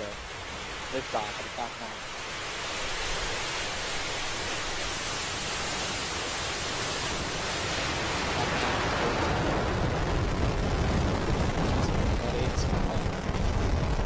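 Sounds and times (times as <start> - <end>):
deep crackling rumble: 0.0 - 14.0
rocket engines roaring: 0.0 - 14.0.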